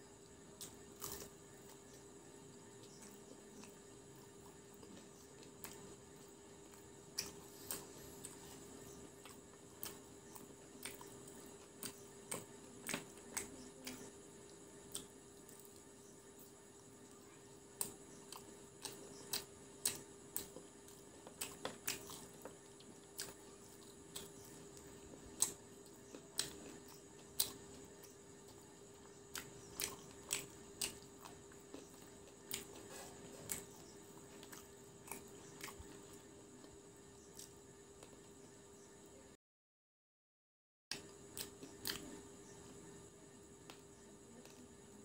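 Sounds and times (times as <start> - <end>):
crunchy chewing: 0.0 - 39.1, 40.9 - 45.0
faint steady hum: 0.0 - 39.4, 40.9 - 45.0.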